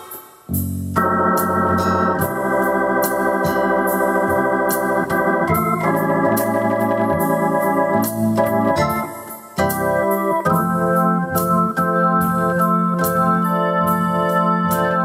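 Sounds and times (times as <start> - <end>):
drum machine rhythm: 0.0 - 15.0
organ chords with bass line: 0.0 - 15.0.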